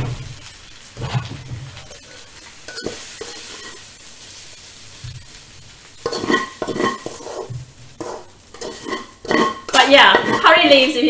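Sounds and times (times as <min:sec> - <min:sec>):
spatula scraping a wok: 0:00.4 - 0:11.0.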